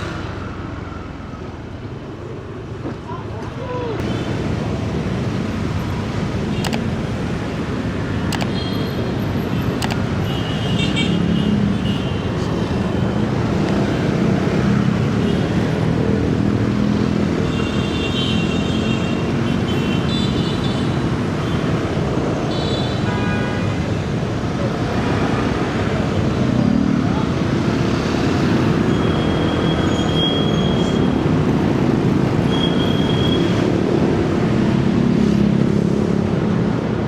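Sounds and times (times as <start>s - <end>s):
road and wind noise: 0.0s - 37.0s.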